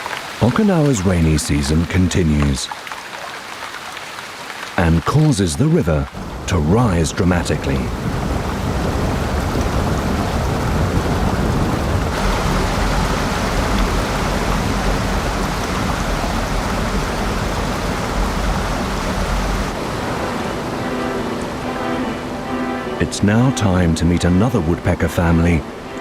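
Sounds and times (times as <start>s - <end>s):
heavy rain: 0.0s - 26.0s
river rushing in flood: 0.0s - 26.0s.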